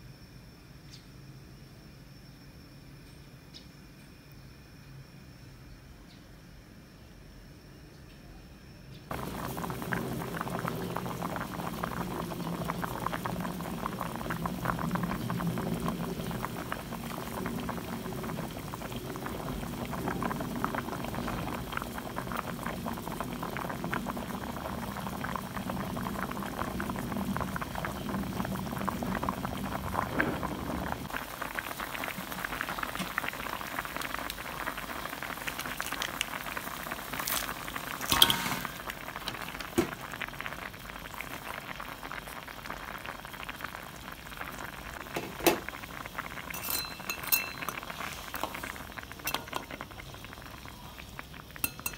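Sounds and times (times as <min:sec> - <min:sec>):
liquid bubbling in pot: 0:09.1 - 0:51.9.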